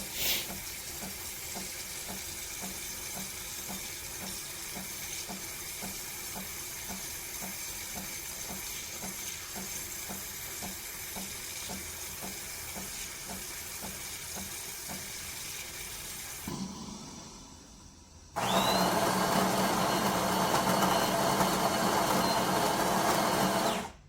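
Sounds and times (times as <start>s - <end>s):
espresso machine hissing and pulsing: 0.0s - 24.0s.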